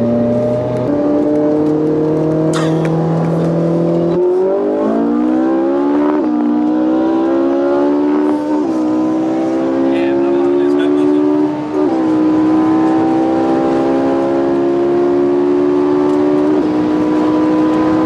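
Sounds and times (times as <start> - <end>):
engines accelerating hard: 0.0 - 18.0.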